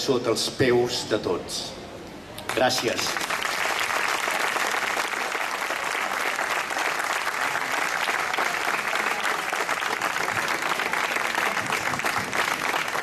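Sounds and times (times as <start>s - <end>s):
crowd applauding: 2.5s - 13.0s.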